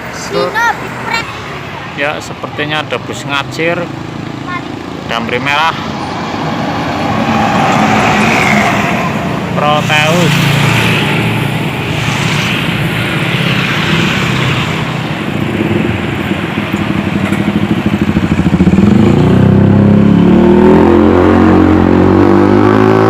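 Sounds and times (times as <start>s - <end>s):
bus diesel engine: 0.0s - 23.0s.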